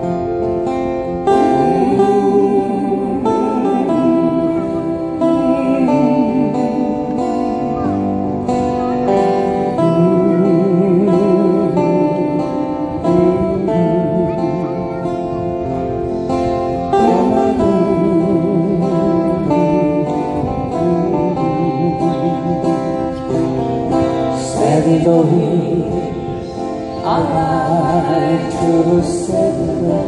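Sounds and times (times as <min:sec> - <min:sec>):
acoustic guitars playing: 0:00.0 - 0:30.0.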